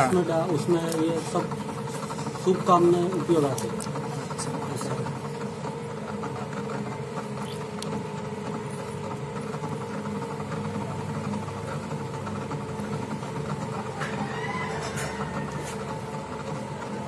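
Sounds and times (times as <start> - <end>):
potter's wheel motor humming: 0.0 - 17.0.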